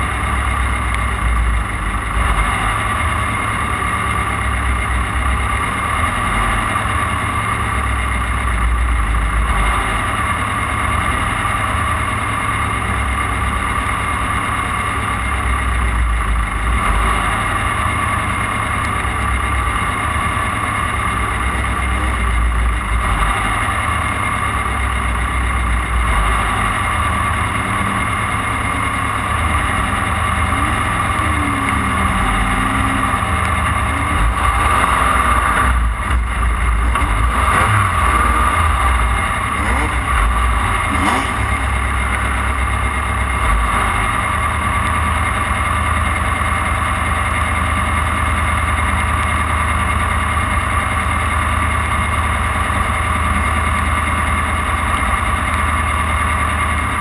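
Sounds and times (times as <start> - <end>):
race car engine droning: 0.0 - 57.0.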